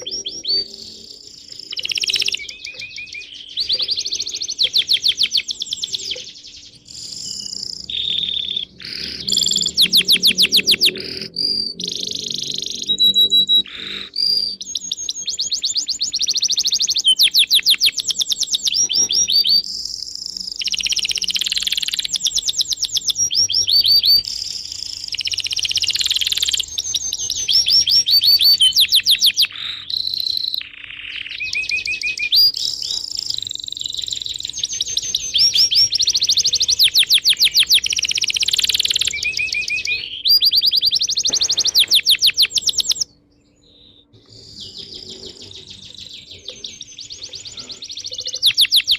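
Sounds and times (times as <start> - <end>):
small birds trilling and chirping: 0.0 - 48.9.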